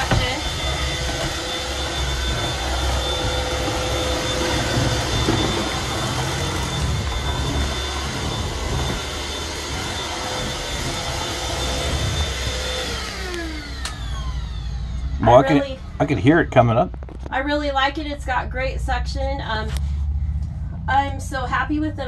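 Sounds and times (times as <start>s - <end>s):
vacuum motor spinning down: 0.0s - 18.6s
vacuum cleaner running: 0.0s - 18.7s.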